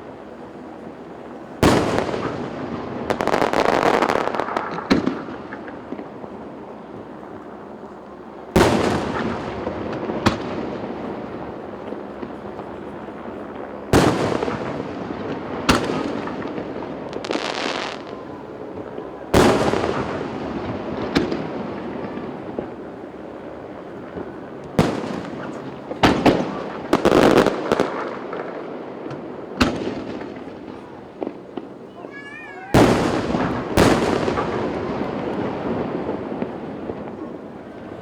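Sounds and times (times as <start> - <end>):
firework crackling: 0.0 - 38.0
firework booms with echo: 1.6 - 6.3, 8.6 - 13.0, 13.9 - 23.0, 23.6 - 31.8, 32.7 - 38.0.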